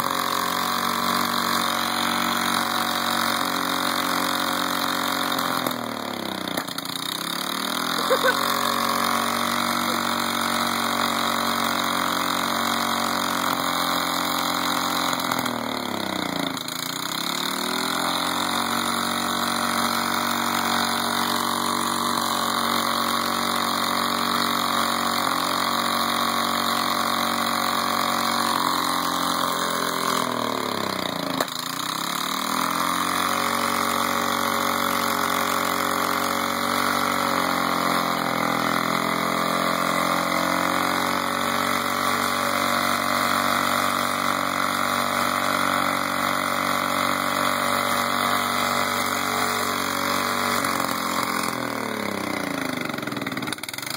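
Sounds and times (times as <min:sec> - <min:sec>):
mower engine running: 0:00.0 - 0:53.9.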